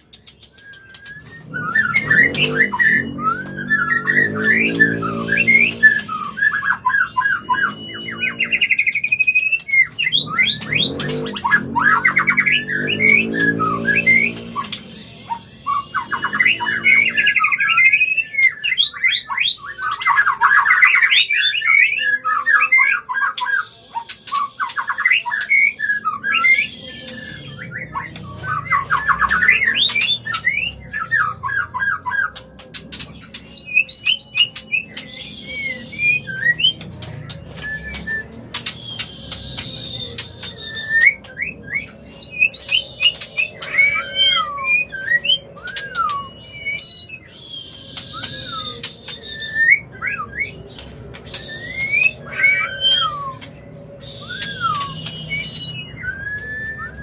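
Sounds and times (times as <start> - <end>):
bird whistled song and trills: 0.0 - 57.0
harsh squawking chatter: 0.0 - 57.0.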